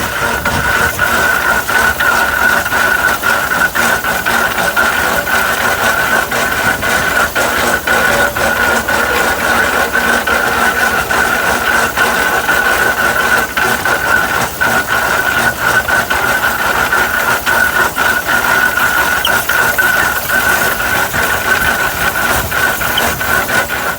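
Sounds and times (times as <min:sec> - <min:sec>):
knocks and rattles: 0:00.0 - 0:23.9
steam tractor running: 0:00.0 - 0:23.9.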